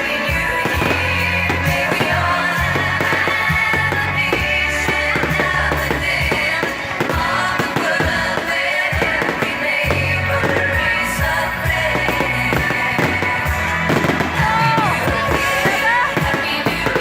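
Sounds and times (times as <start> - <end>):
firework bangs: 0.0 - 17.0
music with singing: 0.0 - 17.0.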